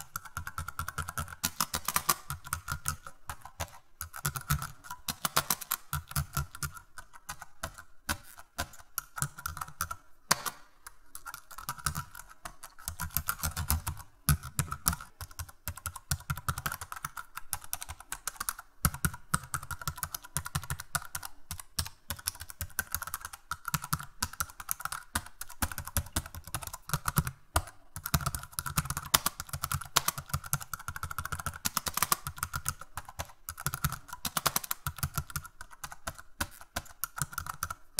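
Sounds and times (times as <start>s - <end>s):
computer keyboard typing: 0.0s - 37.9s.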